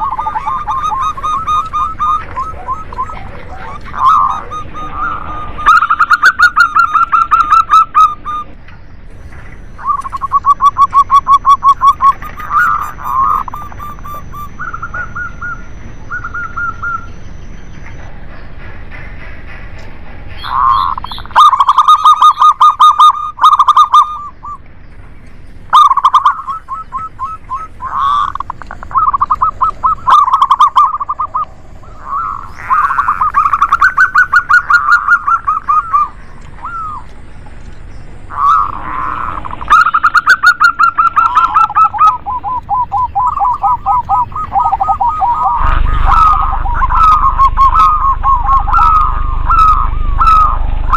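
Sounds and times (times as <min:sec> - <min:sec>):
doves cooing: 0:00.0 - 0:08.6, 0:09.3 - 0:17.2, 0:20.4 - 0:24.6, 0:25.7 - 0:50.9.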